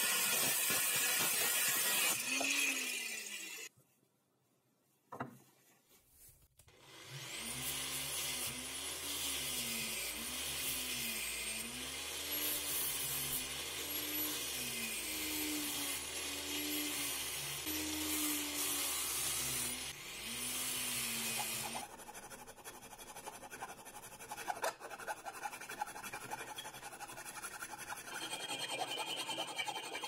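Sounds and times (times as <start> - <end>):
angle grinder sanding metal: 0.0 - 3.7, 7.2 - 30.0.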